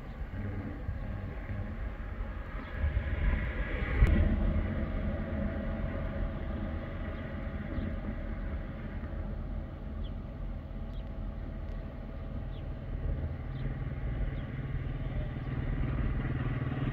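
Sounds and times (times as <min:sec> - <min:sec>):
vehicle passing with low rumble: 0:00.0 - 0:16.9.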